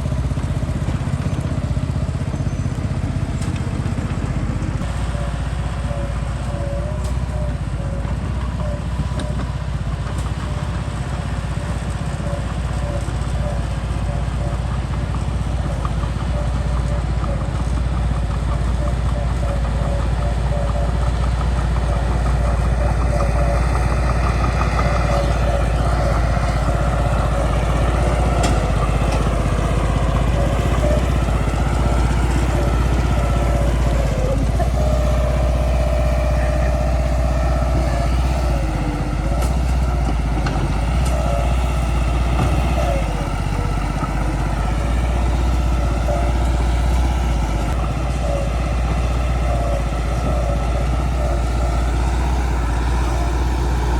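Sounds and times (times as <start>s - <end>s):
bulldozer diesel engine: 0.0s - 53.9s
steady whine: 4.8s - 53.9s.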